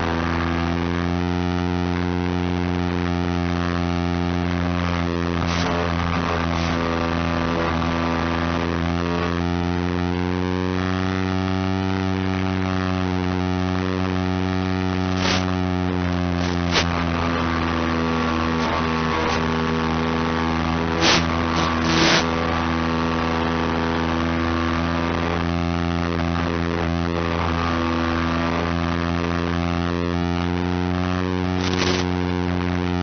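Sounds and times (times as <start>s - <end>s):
electric motor and propeller hum: 0.0s - 33.0s
static crackles: 0.0s - 33.0s.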